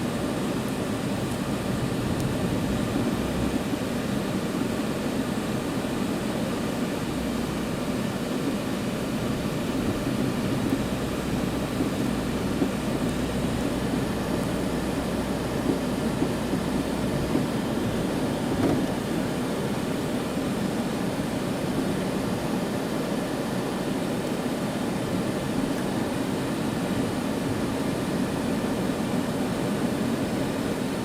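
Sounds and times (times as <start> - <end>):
low rumble of vehicle noise: 0.0 - 31.0.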